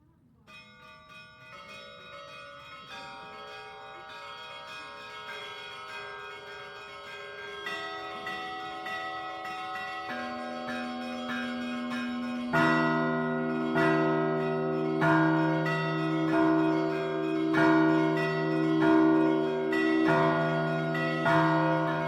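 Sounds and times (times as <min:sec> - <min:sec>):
small high church bells: 0:00.3 - 0:22.0
deep church bells: 0:00.5 - 0:22.0.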